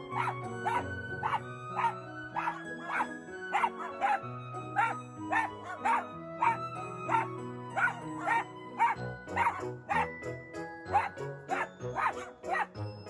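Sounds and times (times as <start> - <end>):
background music: 0.0 - 13.0
dog barking: 0.2 - 10.1, 10.9 - 12.8.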